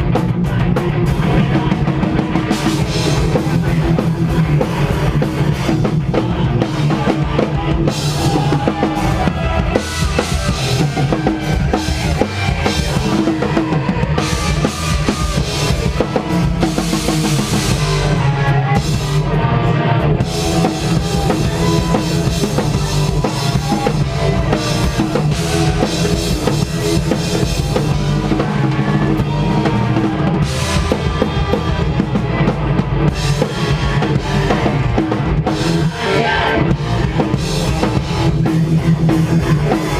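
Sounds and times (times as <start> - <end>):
heavy rock band playing: 0.0 - 39.9.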